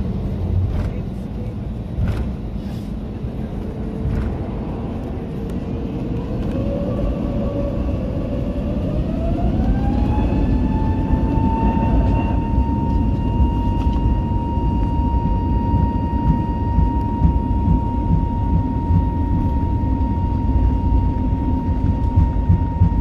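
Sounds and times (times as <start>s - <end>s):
jet engine whine spooling up: 0.0s - 23.0s
low engine rumble: 0.0s - 23.0s.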